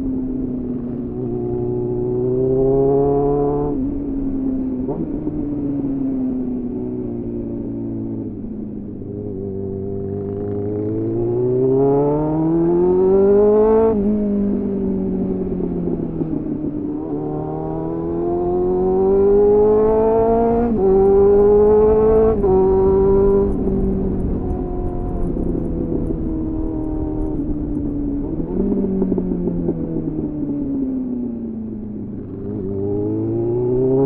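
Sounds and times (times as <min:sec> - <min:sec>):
motorcycle engine revving: 0:00.7 - 0:07.0, 0:09.1 - 0:34.0.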